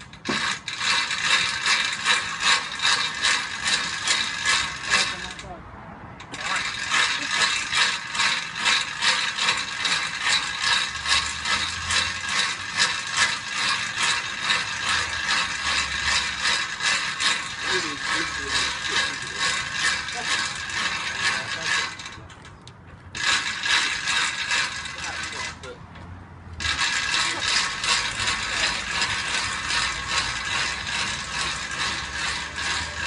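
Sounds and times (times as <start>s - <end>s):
winch ratchet clicking: 0.0s - 5.5s, 6.2s - 25.8s, 26.6s - 33.0s.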